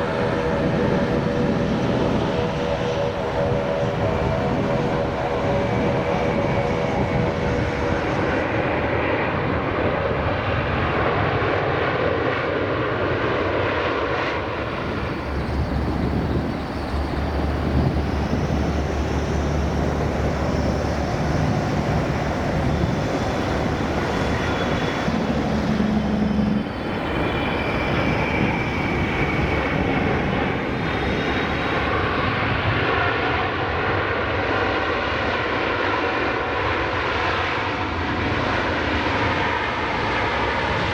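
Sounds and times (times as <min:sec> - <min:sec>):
jet airliner landing: 0:00.0 - 0:40.9.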